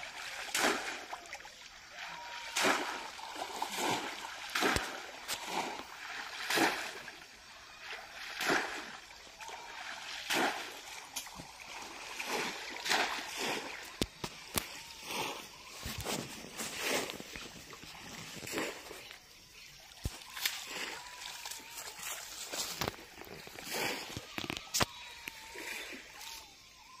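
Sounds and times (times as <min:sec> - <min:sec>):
water splashing: 0:00.0 - 0:26.6.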